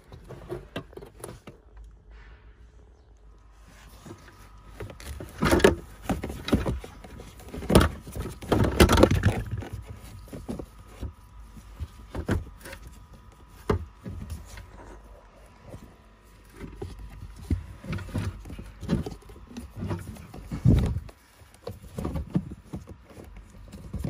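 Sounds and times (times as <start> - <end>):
air filter scraping in housing: 0.0 - 24.0.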